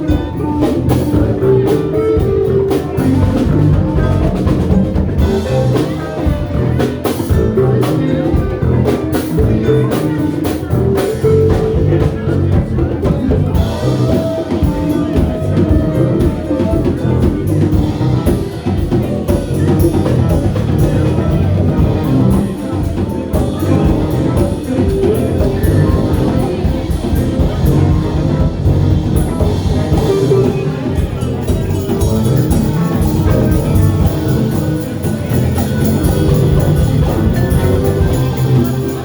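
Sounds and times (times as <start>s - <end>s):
live band playing: 0.0s - 39.0s.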